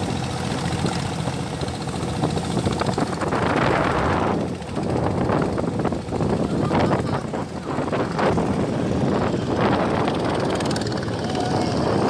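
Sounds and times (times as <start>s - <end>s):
boat engine running: 0.0s - 12.0s
rush of wind or water: 0.0s - 12.0s.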